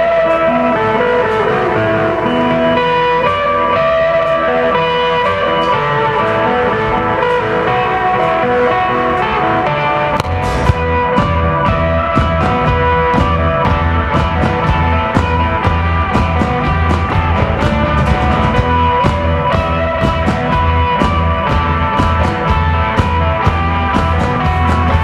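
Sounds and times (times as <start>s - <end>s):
bass guitar line: 0.0s - 25.0s
drum kit beat: 0.0s - 25.0s
electric guitar sustained notes: 0.0s - 25.0s.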